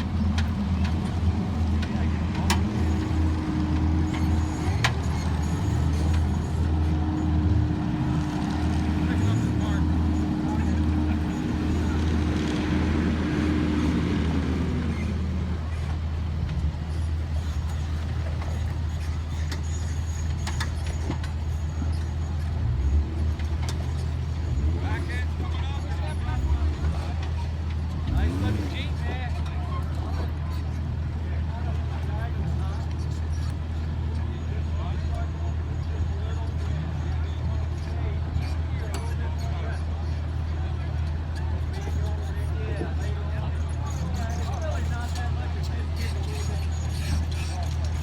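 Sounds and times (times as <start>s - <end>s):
vehicle engine rumbling: 0.0s - 48.0s.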